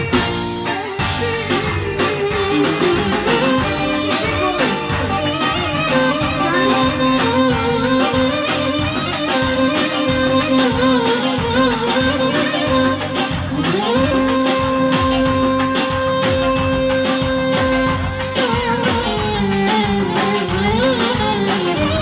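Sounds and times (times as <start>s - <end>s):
clarinet ornamented melody: 0.0s - 22.0s
keyboard and drum backing: 0.0s - 22.0s.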